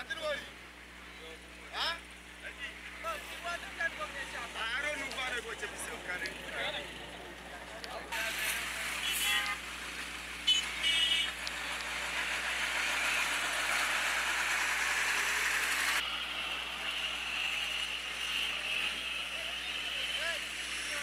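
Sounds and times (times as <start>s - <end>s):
street ambience: 0.0s - 21.0s.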